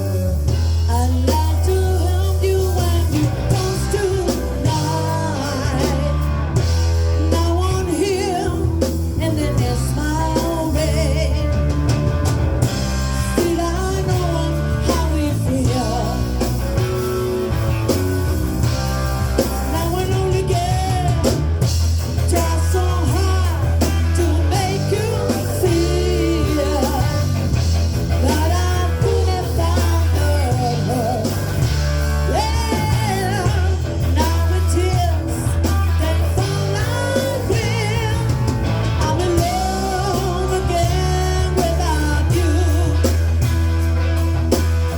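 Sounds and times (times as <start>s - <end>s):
live rock band: 0.0s - 44.9s
person singing: 0.8s - 11.8s, 13.0s - 16.7s, 19.7s - 21.5s, 22.1s - 43.5s.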